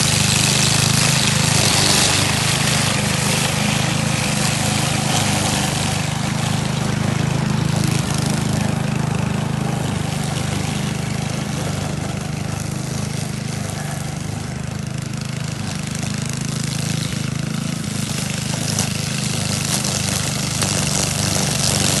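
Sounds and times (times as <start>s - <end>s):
string trimmer engine running: 0.0s - 22.0s
trimmer line cutting grass: 0.0s - 22.0s.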